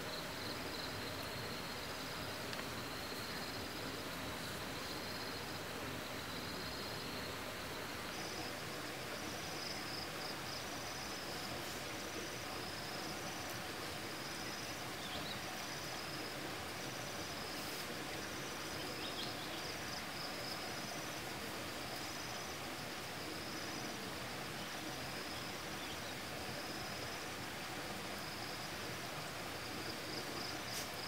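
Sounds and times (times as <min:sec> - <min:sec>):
insects trilling: 0:00.0 - 0:31.0
steady background hiss: 0:00.0 - 0:31.0.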